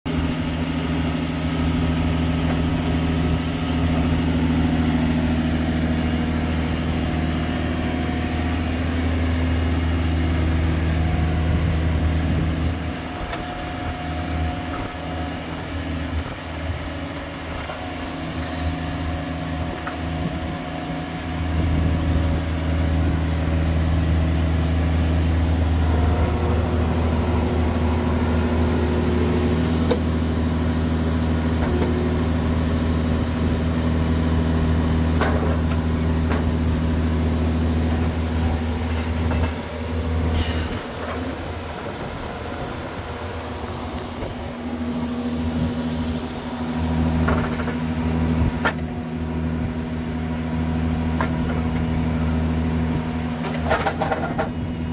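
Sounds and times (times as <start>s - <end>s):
diesel engine humming: 0.1s - 54.9s.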